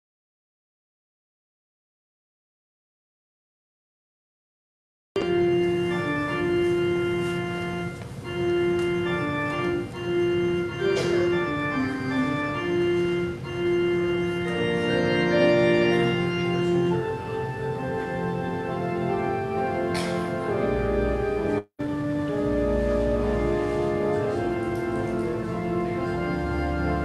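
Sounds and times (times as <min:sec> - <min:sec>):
organ playing held chords: 0:05.2 - 0:27.0.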